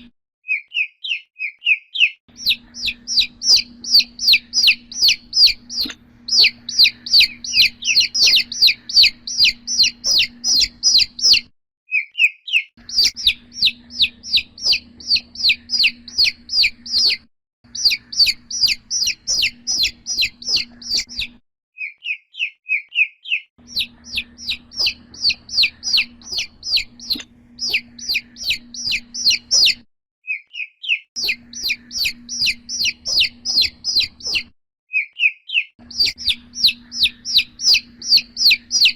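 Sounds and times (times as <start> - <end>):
chick peeping: 0.0 - 29.8, 30.5 - 38.9.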